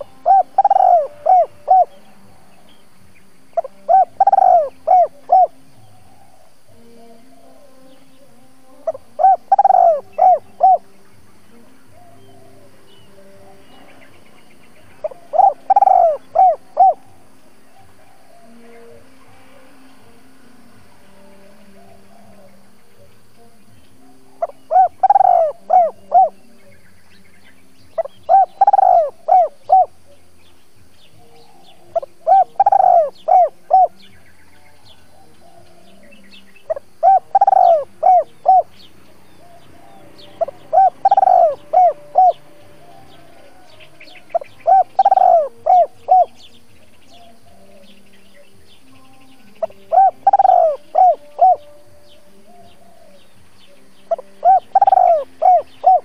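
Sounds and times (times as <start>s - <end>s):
dove cooing: 0.0s - 2.6s, 3.6s - 6.7s, 8.8s - 19.7s, 21.6s - 23.3s, 24.0s - 26.8s, 28.0s - 30.4s, 31.2s - 48.5s, 49.6s - 56.0s.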